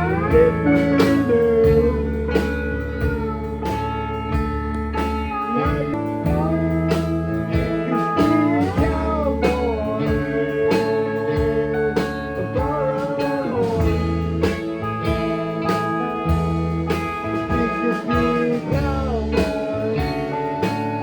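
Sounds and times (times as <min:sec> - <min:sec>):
bass: 0:00.0 - 0:21.0
drum hits: 0:00.0 - 0:21.0
lead guitar bending notes: 0:00.0 - 0:21.0.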